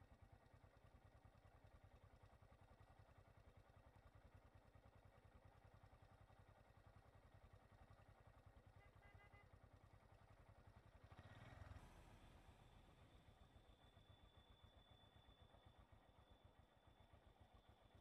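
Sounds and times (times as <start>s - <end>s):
faint low engine idle: 0.0s - 18.0s.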